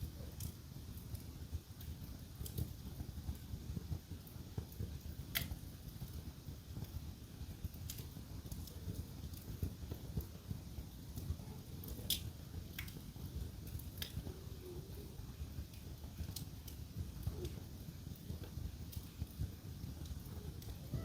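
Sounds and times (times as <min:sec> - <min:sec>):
wood fire crackling: 0:00.0 - 0:21.0
sharp pops of fire: 0:00.2 - 0:14.4, 0:15.5 - 0:21.0.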